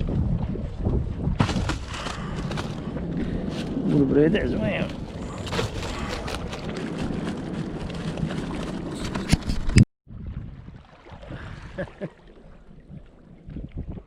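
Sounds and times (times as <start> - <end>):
wind buffeting microphone: 0.0 - 11.8, 12.6 - 14.0.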